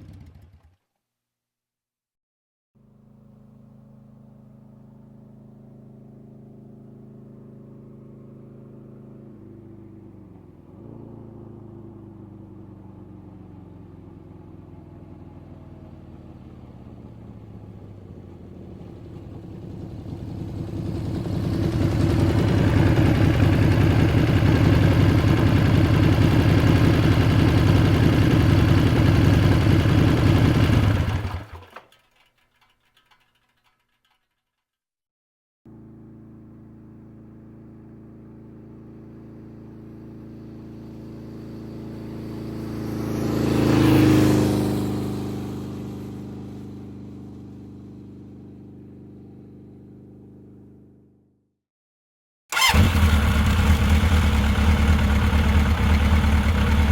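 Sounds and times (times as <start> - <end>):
engine humming and roaring: 2.8 - 31.9, 35.7 - 51.1, 52.5 - 56.9.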